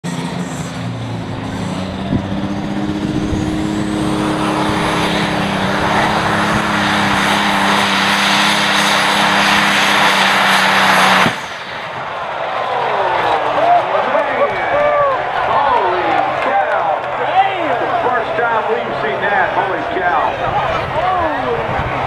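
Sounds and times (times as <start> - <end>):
diesel truck engine roaring: 0.0 - 22.0.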